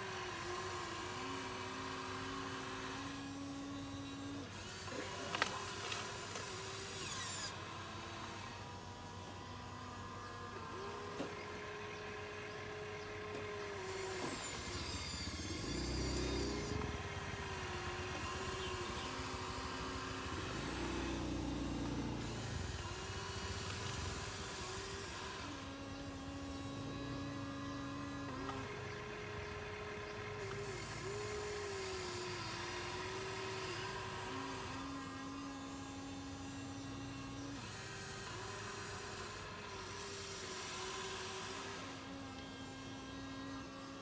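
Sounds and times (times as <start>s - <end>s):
electric motors whining: 0.0s - 44.0s.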